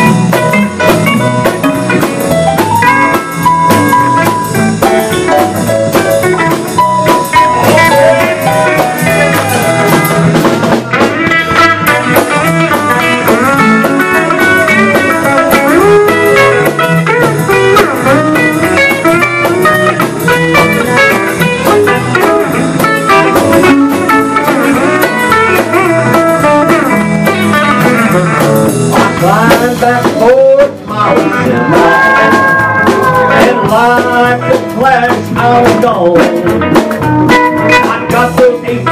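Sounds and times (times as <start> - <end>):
keyboard: 0.0 - 37.6
bass guitar: 0.0 - 38.9
drum kit: 0.0 - 38.9
electric guitar: 0.0 - 38.9.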